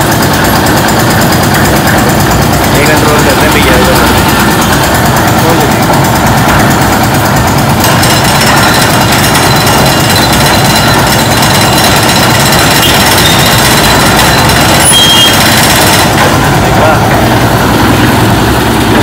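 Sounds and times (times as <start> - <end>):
concrete mixer hoist winch running: 0.0 - 19.0.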